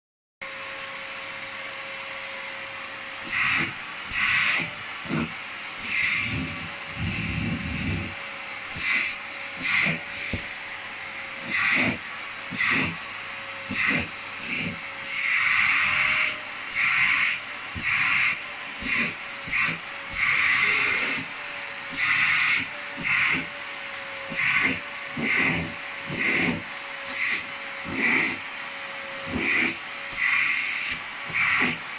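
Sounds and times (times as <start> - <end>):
vacuum cleaner running: 0.4 - 31.9
vacuum nozzle hissing on fur: 0.5 - 31.9.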